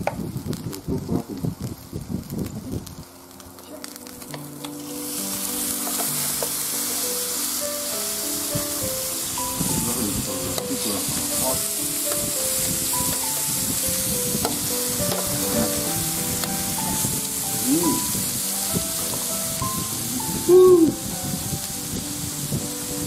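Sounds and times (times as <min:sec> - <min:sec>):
meat sizzling on a grill: 0:00.0 - 0:23.0
soft background music: 0:03.6 - 0:23.0.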